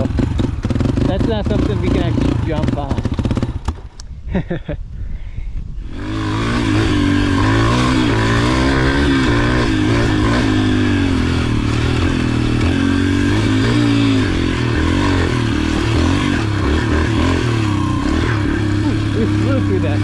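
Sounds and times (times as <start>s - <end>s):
motorbike engine revving: 0.0s - 4.5s, 5.8s - 20.0s.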